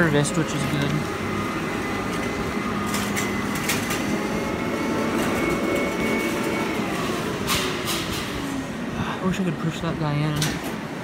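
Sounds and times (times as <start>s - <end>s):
machinery humming and rumbling: 0.0s - 11.0s.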